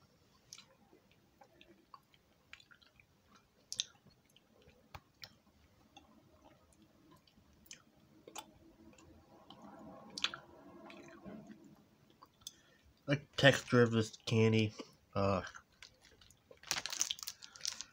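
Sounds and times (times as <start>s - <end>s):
faint chewing with mouth clicks: 0.3s - 13.0s, 14.7s - 17.9s.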